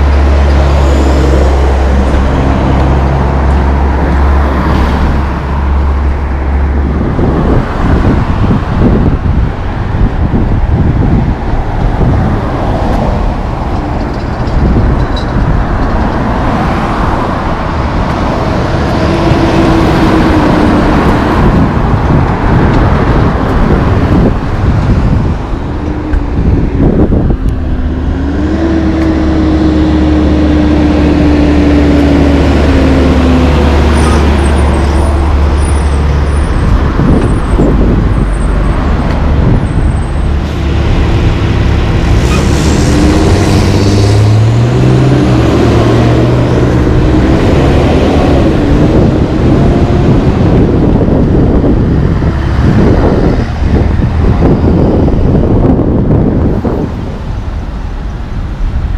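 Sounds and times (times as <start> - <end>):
road traffic passing: 0.0 - 58.9
steady low rumble: 0.0 - 58.9.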